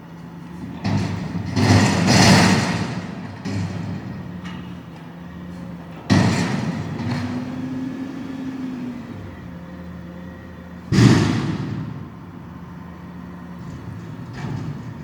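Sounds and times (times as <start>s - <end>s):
garbage truck engine running: 0.3s - 15.0s.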